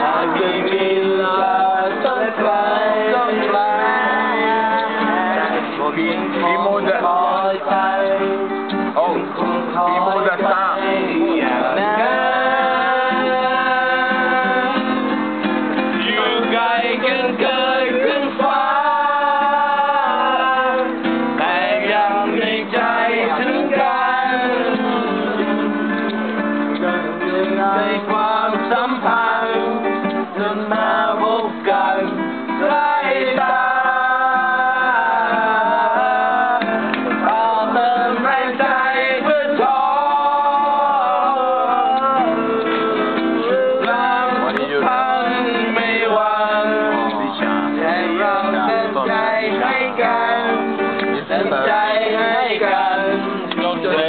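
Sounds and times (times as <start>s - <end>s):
acoustic guitar strumming: 0.0s - 54.0s
men singing: 0.0s - 54.0s.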